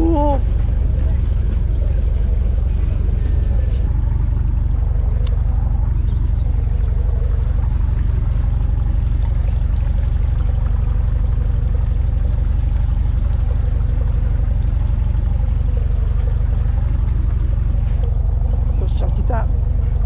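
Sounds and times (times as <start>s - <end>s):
boat engine throbbing: 0.0s - 20.0s
water washing against hull: 0.0s - 20.0s.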